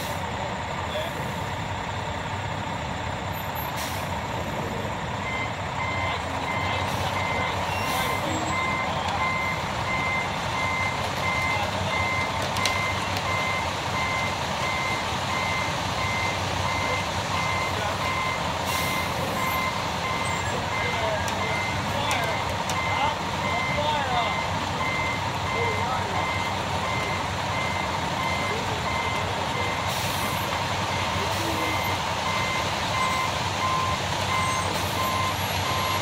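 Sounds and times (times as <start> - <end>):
truck engine running: 0.0 - 36.0
backup alarm beeping: 4.4 - 36.0.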